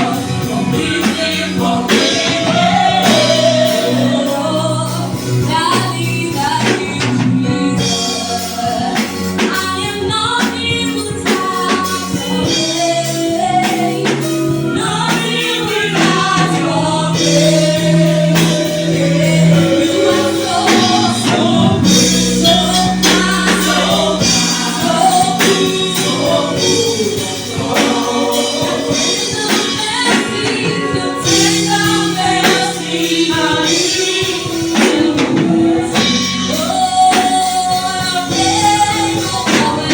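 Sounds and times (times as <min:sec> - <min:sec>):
sustained bass notes: 0:00.0 - 0:11.0, 0:15.8 - 0:37.0
choir singing gospel song: 0:00.0 - 0:39.9
percussion steady beat: 0:00.0 - 0:39.9.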